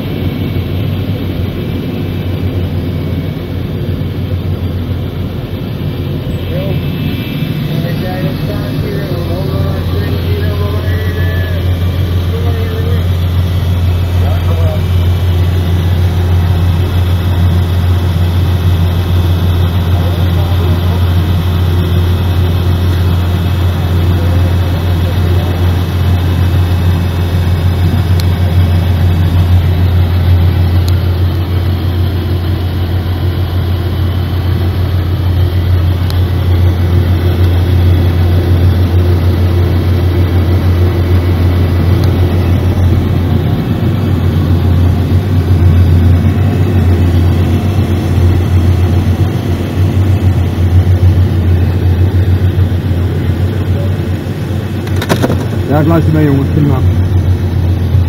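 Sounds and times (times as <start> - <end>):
vehicle engine low hum: 0.0 - 58.0.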